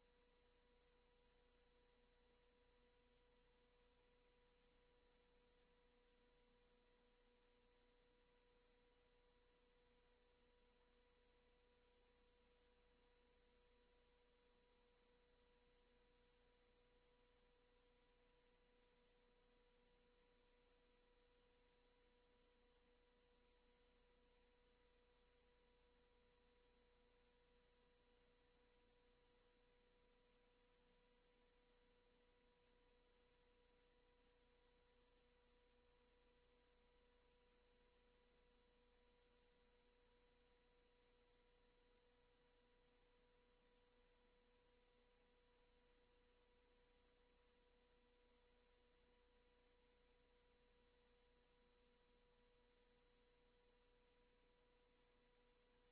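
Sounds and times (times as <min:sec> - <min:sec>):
faint electronic hum: 0:00.0 - 0:55.9.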